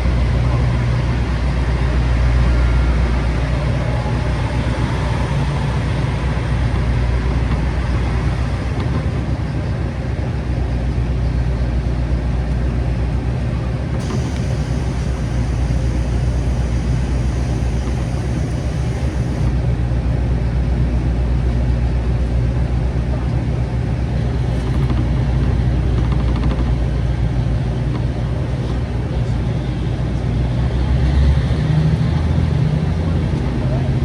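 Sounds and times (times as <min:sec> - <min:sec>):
diesel engine drone: 0:00.0 - 0:34.0
train running noise: 0:00.0 - 0:34.0.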